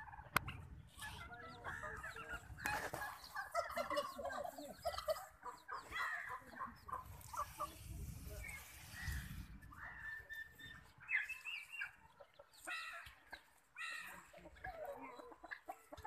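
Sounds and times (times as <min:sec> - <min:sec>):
chicken clucking: 0:00.0 - 0:16.0.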